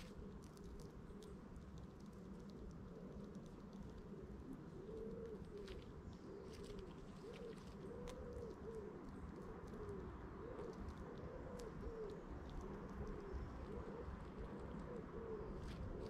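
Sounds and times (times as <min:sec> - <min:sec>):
pigeons cooing: 0:02.3 - 0:16.0.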